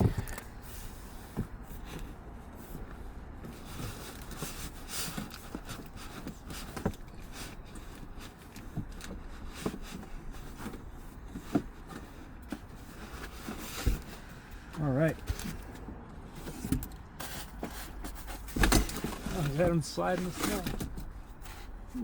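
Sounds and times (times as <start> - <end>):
box and packaging handled: 1.3 - 22.0.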